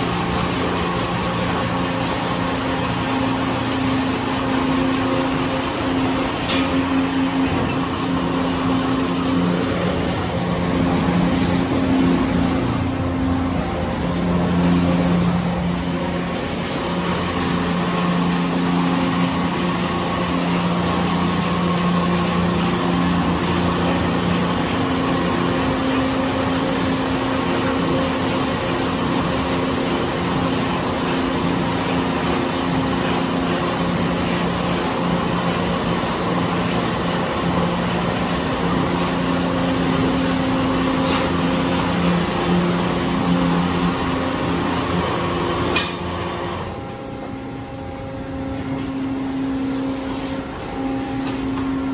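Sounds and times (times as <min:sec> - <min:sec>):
car wash machine humming: 0:00.0 - 0:51.9.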